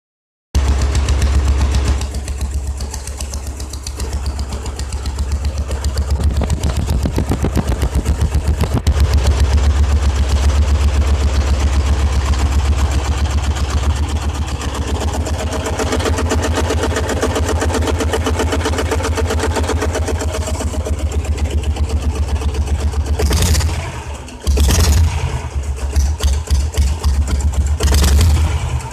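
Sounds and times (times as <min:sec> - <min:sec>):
single-cylinder engine exhaust: 0:00.6 - 0:28.9.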